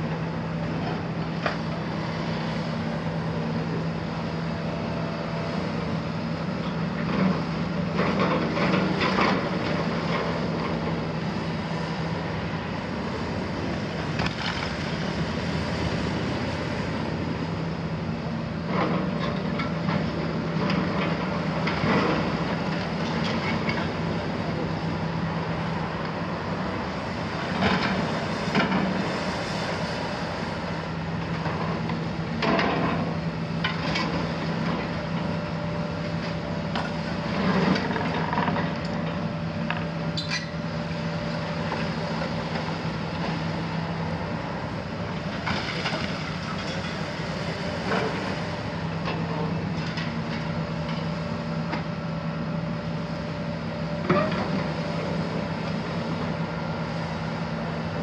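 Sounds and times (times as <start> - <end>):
excavator engine and hydraulics drone: 0.0 - 58.0.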